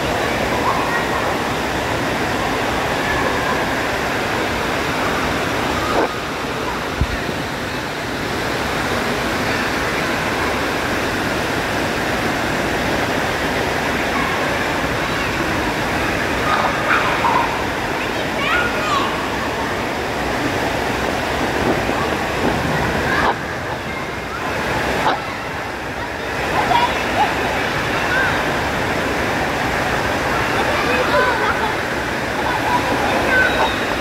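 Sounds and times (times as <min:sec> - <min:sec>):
faint voices: 0:00.0 - 0:34.0
water churning and splashing: 0:00.0 - 0:34.0.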